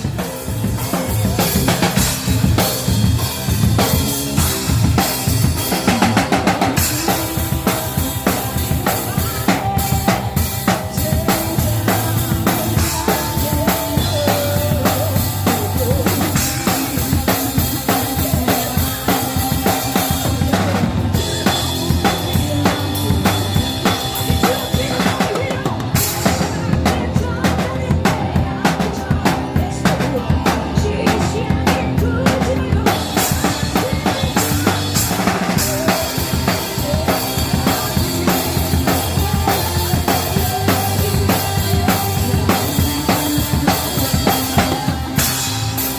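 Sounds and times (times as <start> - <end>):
drum kit beat: 0.0 - 45.9.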